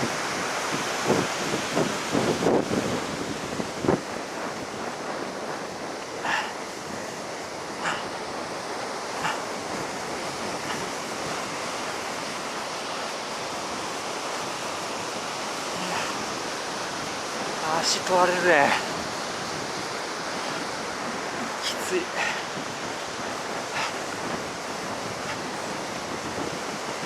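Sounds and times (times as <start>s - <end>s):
heavy surf rushing: 0.0s - 27.0s
wind on microphone: 0.0s - 27.0s.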